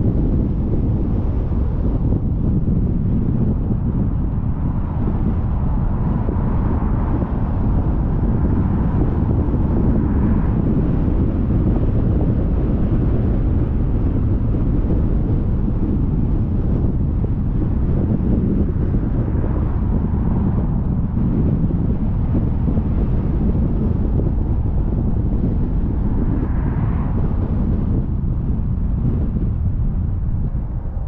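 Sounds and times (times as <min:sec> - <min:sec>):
car road noise: 0:00.0 - 0:31.0
wind buffeting microphone: 0:00.0 - 0:31.0
wind rush: 0:00.0 - 0:31.0.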